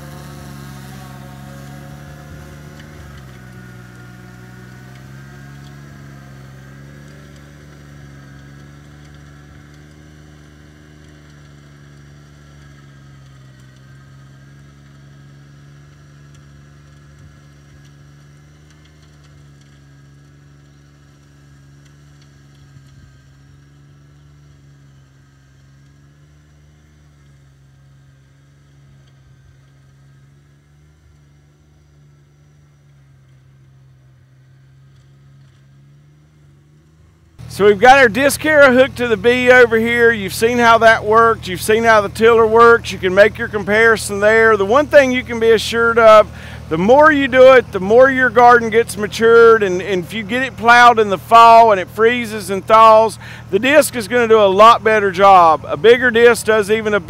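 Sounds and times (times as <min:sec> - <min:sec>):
rotary tiller through sod: 0:00.0 - 0:57.0
tractor engine running: 0:00.0 - 0:57.0.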